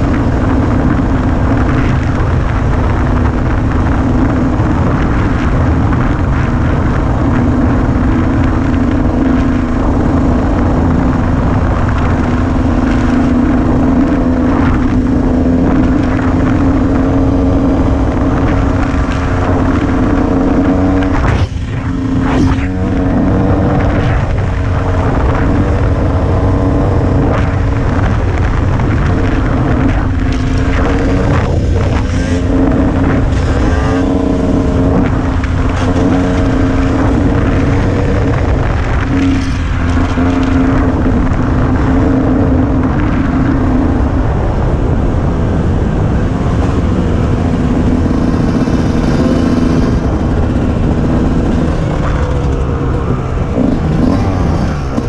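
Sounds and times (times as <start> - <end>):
dirt bike engine running: 0.0 - 55.0
wind rumble on microphone: 0.0 - 55.0.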